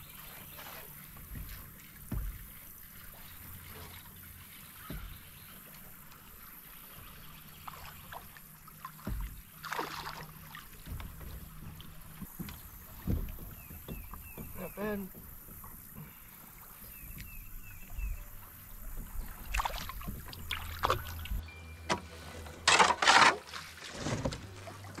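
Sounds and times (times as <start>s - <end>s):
dull thumps against kayak hull: 0.0s - 21.4s
water lapping: 0.0s - 21.4s, 22.0s - 25.0s
faint wind: 0.0s - 25.0s.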